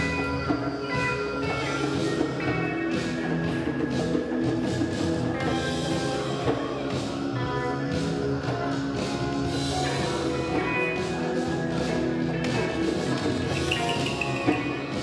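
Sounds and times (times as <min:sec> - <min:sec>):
music with sustained notes: 0:00.0 - 0:15.0.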